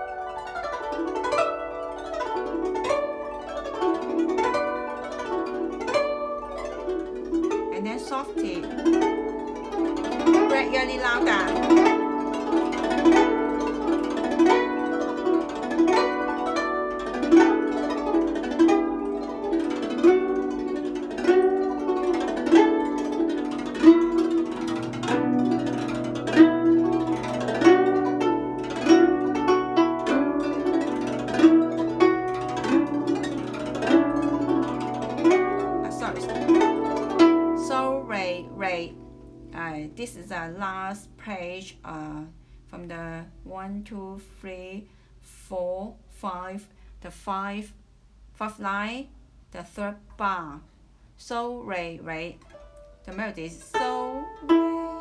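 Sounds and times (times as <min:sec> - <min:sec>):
plucked zither melody: 0:00.0 - 0:42.3, 0:51.8 - 0:55.0.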